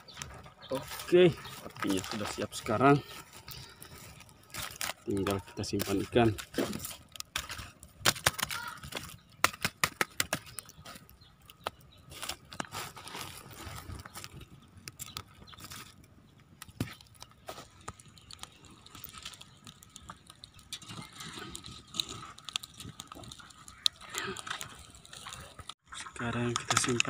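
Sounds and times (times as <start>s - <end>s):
cooking fire crackling: 0.0s - 27.0s.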